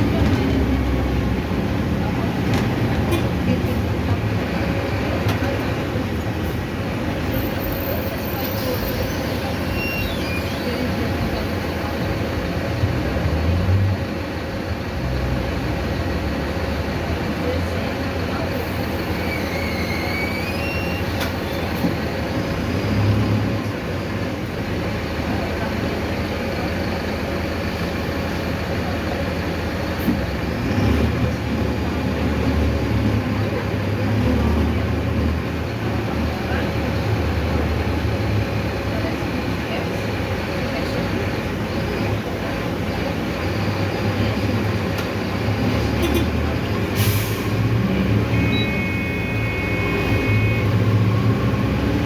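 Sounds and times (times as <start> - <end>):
bus engine rumbling: 0.0 - 52.0
road and body noise: 0.0 - 52.0.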